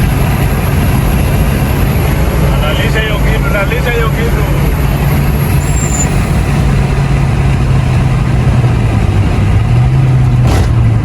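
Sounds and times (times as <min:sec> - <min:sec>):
car engine running: 0:00.0 - 0:11.0
steady rushing noise: 0:00.0 - 0:11.0.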